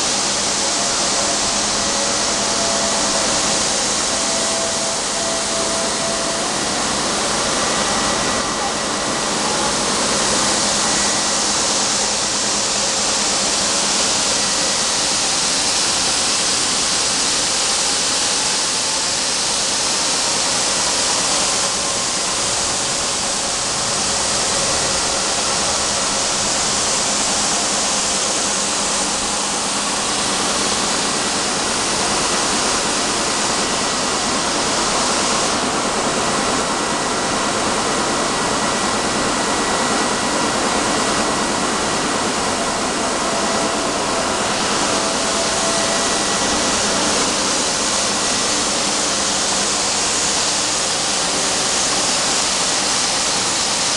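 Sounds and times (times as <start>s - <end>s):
faint high motor whine: 0.0s - 53.9s
machine conveyor hiss: 0.0s - 53.9s.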